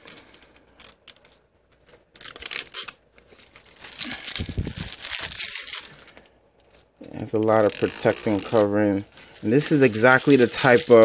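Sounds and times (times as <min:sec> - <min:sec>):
plastic film peeling and crinkling: 0:00.0 - 0:11.0.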